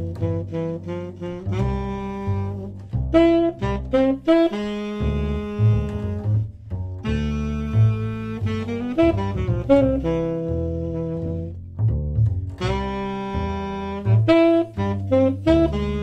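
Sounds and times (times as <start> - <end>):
saxophone melody: 0.0 - 11.6, 12.6 - 16.0
plucked double bass: 0.0 - 16.0.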